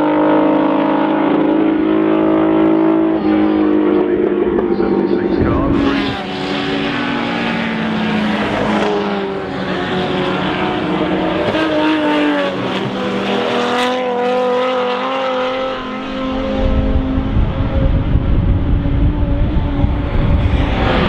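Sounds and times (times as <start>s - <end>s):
racing car engines revving: 0.0s - 21.0s.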